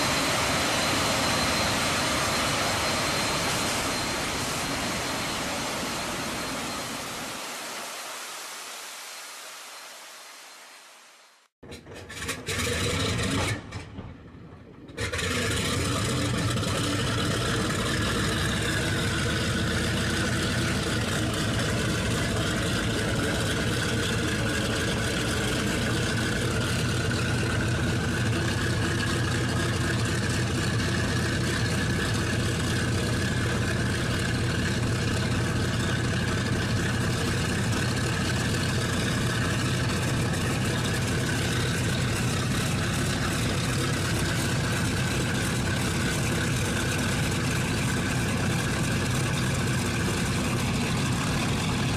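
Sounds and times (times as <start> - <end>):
engine droning with whine: 0.0 - 8.9, 11.7 - 51.9.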